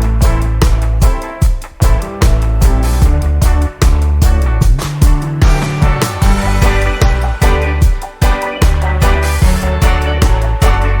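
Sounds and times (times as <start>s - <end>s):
funk music with bass and drums: 0.0s - 11.0s.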